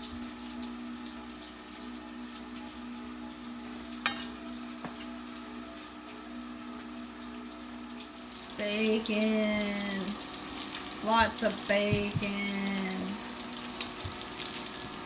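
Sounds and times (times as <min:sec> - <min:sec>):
faint steady hum: 0:00.0 - 0:15.0
fat sizzling in a pan: 0:00.0 - 0:15.0.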